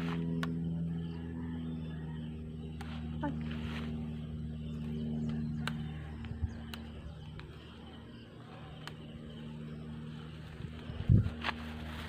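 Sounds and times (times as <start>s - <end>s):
low steady motor hum: 0.0s - 12.0s.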